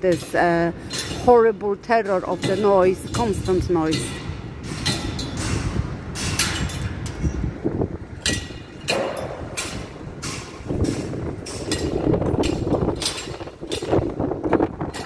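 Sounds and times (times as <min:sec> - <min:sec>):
metallic knocks and bangs: 0:00.0 - 0:15.0.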